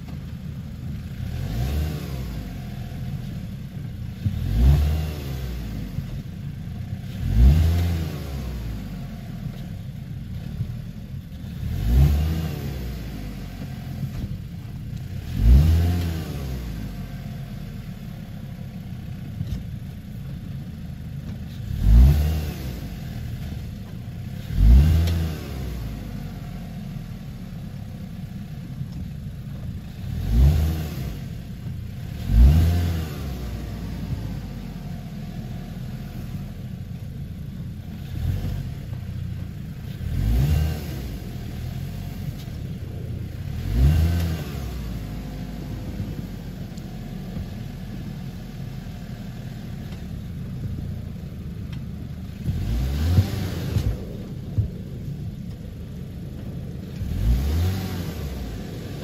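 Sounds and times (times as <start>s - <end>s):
car engine idling: 0.0s - 59.0s
car engine revving: 0.0s - 59.0s.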